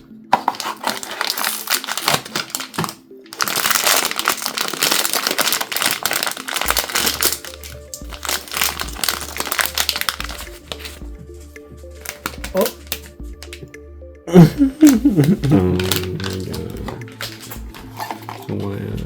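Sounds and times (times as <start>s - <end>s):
background music: 0.0s - 19.0s
plastic packaging crinkling: 0.3s - 11.1s, 12.0s - 13.7s, 14.6s - 18.6s.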